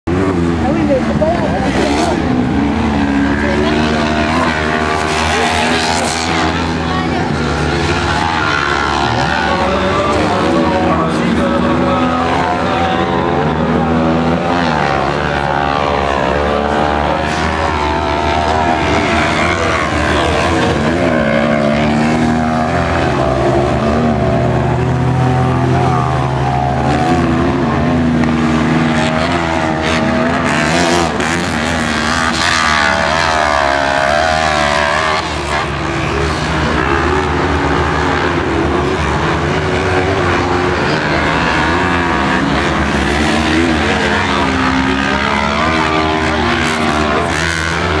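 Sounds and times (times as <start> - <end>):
buggy engines revving: 0.0 - 48.0.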